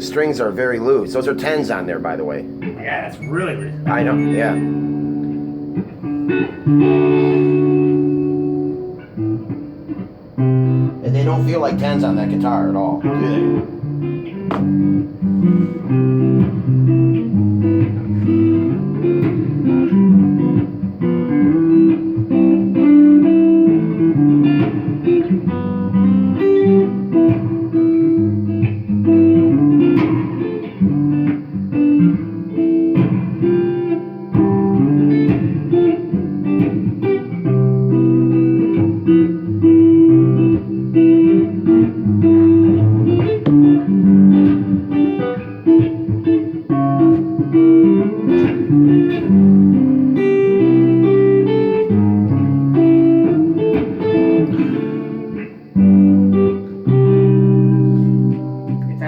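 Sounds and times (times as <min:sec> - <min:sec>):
electric guitar through tube amp: 0:00.0 - 0:59.0.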